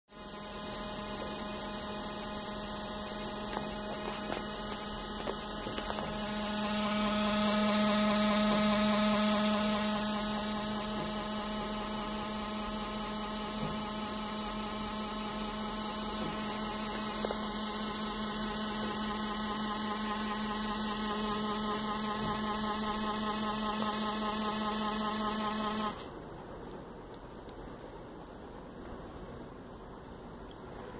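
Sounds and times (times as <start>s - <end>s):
laptop cooling fan humming: 0.1s - 30.9s.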